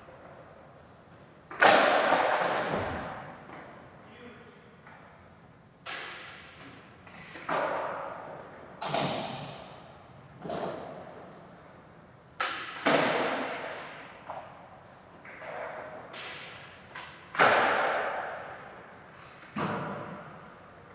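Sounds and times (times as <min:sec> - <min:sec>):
skateboard knocks and rolling: 0:00.0 - 0:03.8, 0:05.8 - 0:11.7, 0:12.4 - 0:20.7.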